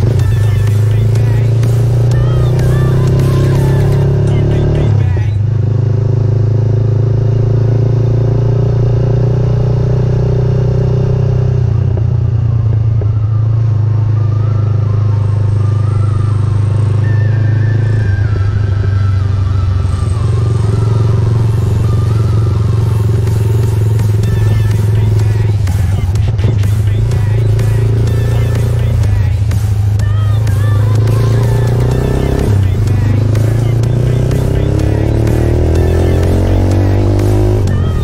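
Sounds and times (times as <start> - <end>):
motorcycle engine cruising: 0.0 - 38.0.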